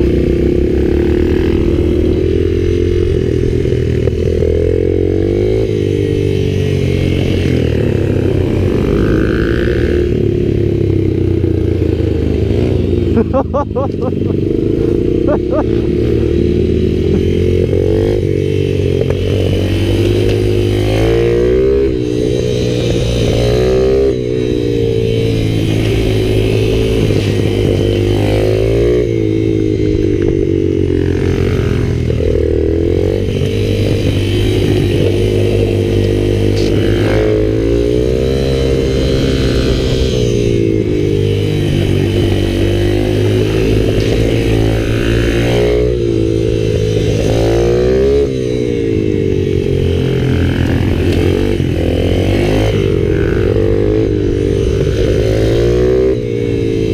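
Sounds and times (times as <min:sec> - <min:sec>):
motorbike engine accelerating: 0:00.0 - 0:56.9.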